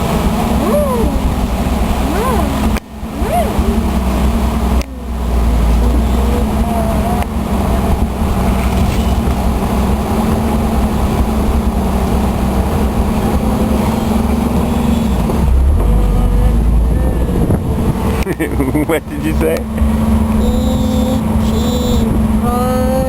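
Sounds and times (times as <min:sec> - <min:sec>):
vehicle engine and road rumble: 0:00.0 - 0:23.0.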